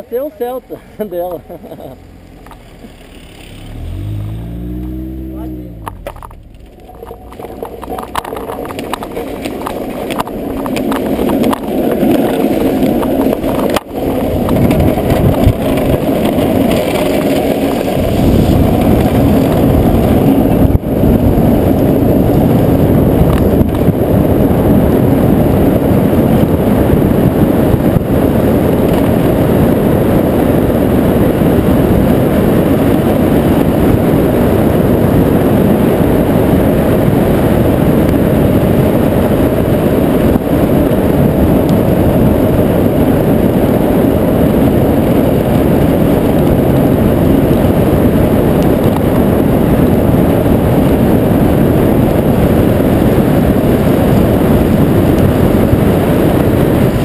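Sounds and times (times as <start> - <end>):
wheels rolling fast on asphalt: 0.0 - 57.0
wind rushing: 2.0 - 57.0.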